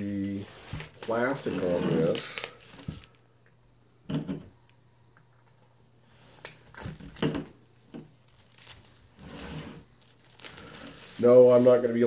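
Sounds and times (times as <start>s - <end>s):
plastic shrink-wrap crinkling and tearing: 0.0s - 3.2s, 5.5s - 12.0s.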